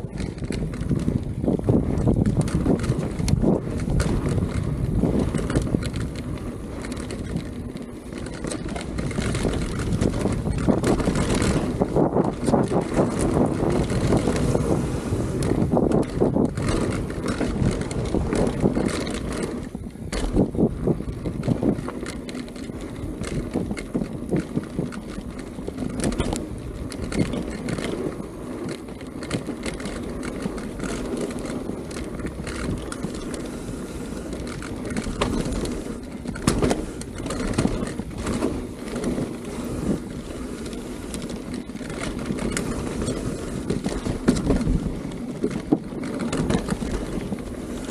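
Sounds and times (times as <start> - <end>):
bike rattling and knocking: 0.0 - 47.9
bike tyres rolling on dirt: 0.0 - 47.9
wind buffeting microphone: 0.0 - 47.9.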